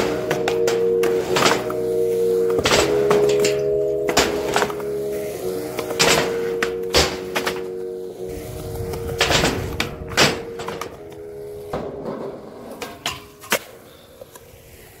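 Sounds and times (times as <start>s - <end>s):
skateboard clacking on ground: 0.0s - 14.6s
skateboard wheels rolling on concrete: 0.0s - 15.0s.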